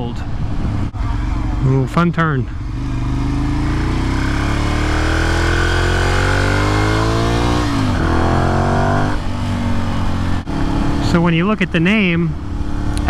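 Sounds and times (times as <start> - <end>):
motorcycle engine accelerating: 0.5 - 13.0.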